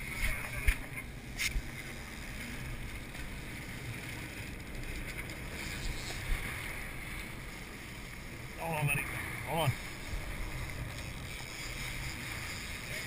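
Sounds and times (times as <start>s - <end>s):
boat engines rumbling: 0.0s - 13.0s
water rushing past hull: 0.0s - 13.0s.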